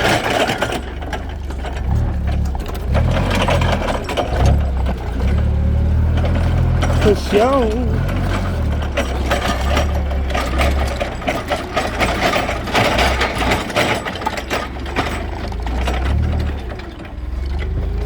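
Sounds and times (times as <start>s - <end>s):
machine clicking and rattling: 0.0s - 18.0s.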